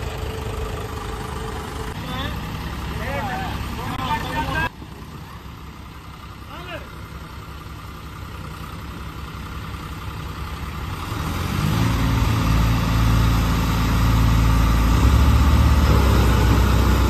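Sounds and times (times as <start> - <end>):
tractor diesel engines straining: 0.0 - 17.0.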